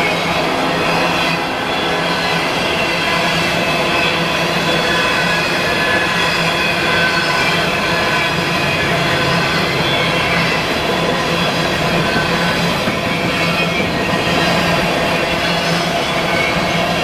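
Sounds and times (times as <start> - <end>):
freight train rumbling: 0.0 - 17.0
wheel squeal: 0.0 - 17.0.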